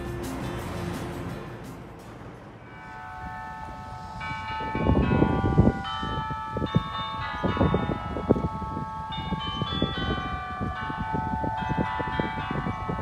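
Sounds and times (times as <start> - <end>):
bells ringing a tune: 0.0 - 13.0.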